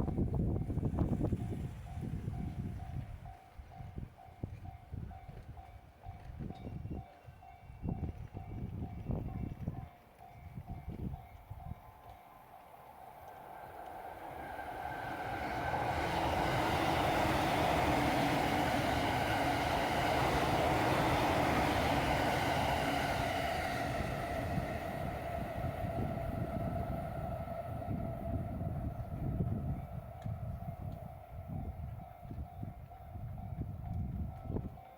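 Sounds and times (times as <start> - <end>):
electric train passing: 0.0 - 34.9.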